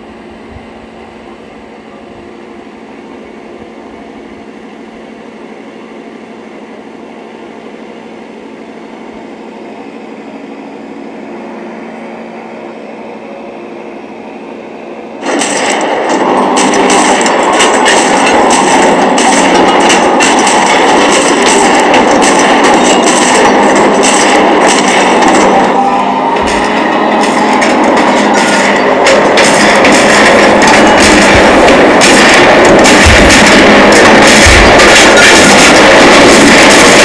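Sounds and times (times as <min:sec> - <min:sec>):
propeller aircraft engine drone: 0:00.0 - 0:37.0.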